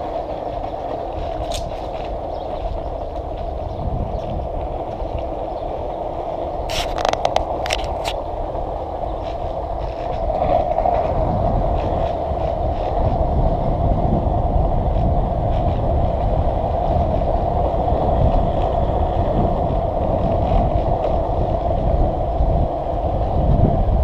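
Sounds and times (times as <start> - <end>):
skateboard wheels rolling on asphalt: 0.0 - 24.0.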